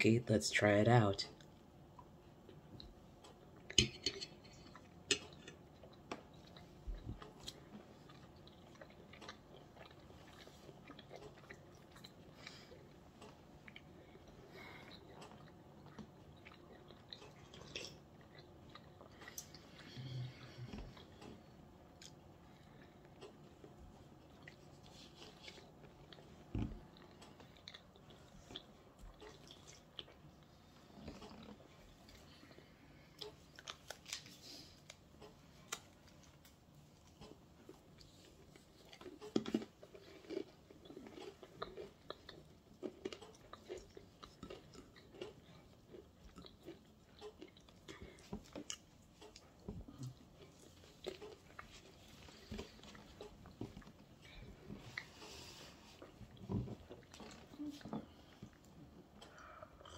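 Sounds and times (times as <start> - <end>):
person chewing: 1.3 - 59.9.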